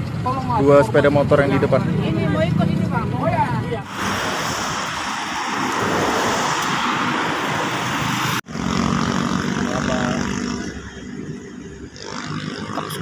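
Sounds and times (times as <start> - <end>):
steady engine hum: 0.0 - 13.0.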